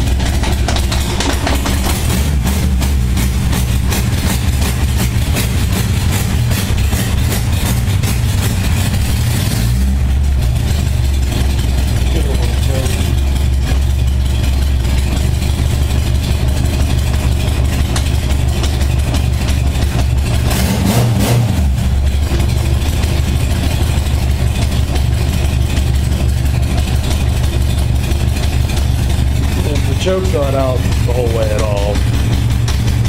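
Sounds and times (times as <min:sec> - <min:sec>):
motorcycle engine idling: 0:00.0 - 0:20.6, 0:21.6 - 0:33.0.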